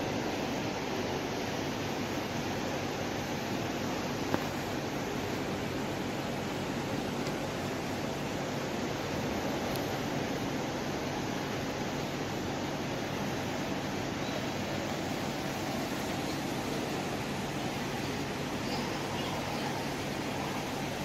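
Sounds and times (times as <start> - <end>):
faint low hum: 0.0 - 21.0
room hiss: 0.0 - 21.0.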